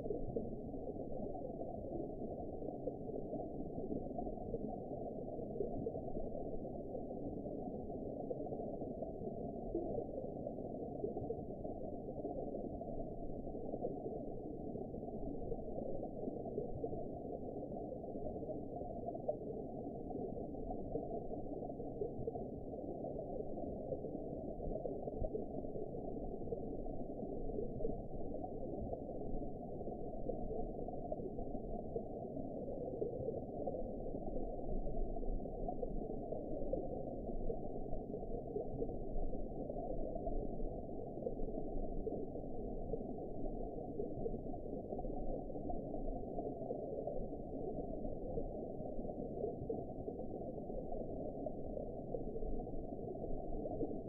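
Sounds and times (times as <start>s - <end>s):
muffled underwater rumble: 0.0s - 54.0s.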